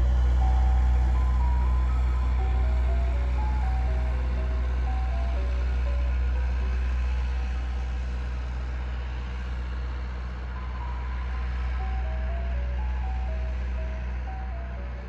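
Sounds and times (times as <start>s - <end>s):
ice cream truck chime melody: 0.0s - 8.7s, 10.5s - 15.0s
steady low hum: 0.0s - 15.0s.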